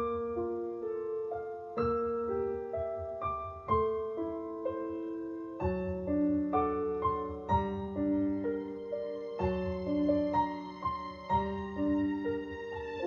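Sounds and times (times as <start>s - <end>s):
gentle piano ballad: 0.0s - 13.0s.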